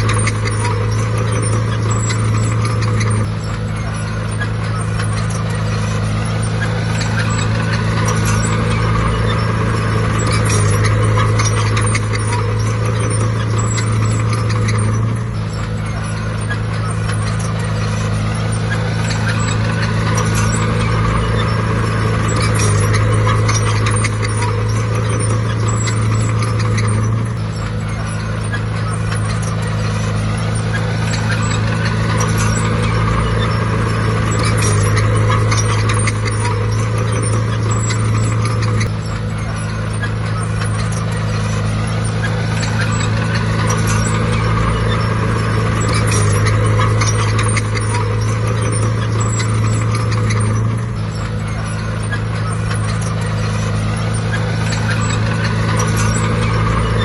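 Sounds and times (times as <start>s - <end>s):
clatter of metal and soil: 0.0s - 57.0s
heavy diesel engine running hard: 0.0s - 57.0s.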